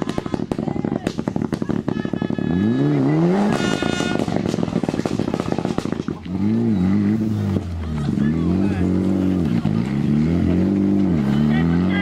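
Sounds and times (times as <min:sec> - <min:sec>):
engine crackling: 0:00.0 - 0:12.0
car engine revving: 0:00.2 - 0:12.0.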